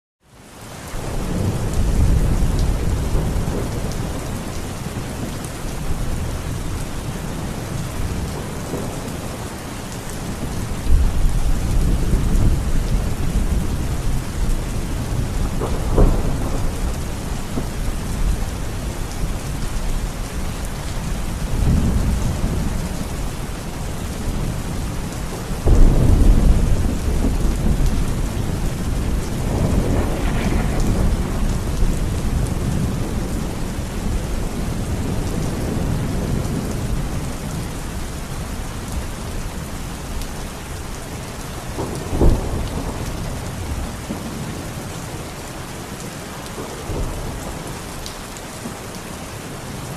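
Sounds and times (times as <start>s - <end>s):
heavy rain: 0.2s - 49.9s
thunder rumbling and cracking: 1.0s - 40.2s, 41.7s - 44.9s.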